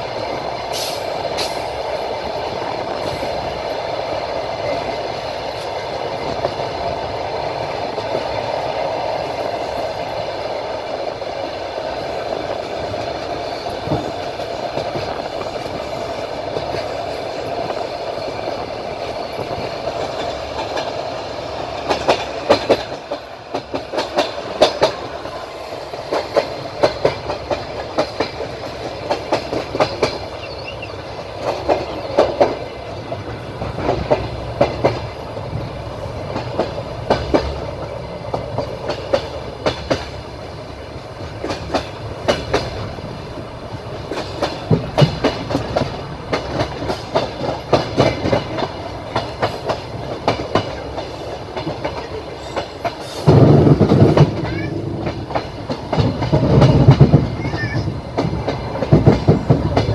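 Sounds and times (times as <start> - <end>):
train wheels rumbling on rails: 0.0 - 59.9
wheels clacking over rail joints: 0.0 - 59.9.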